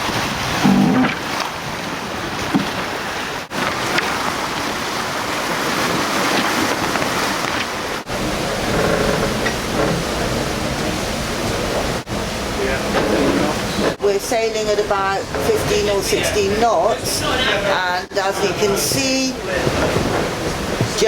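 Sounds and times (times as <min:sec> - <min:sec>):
water rushing past hull: 0:00.0 - 0:21.0.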